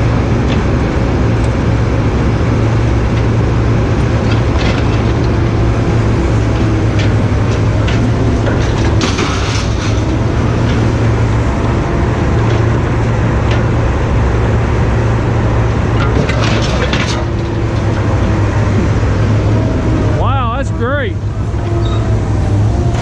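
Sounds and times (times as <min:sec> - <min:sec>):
heavy vehicle engine hum: 0:00.0 - 0:23.0
rattles and clanks: 0:00.0 - 0:23.0.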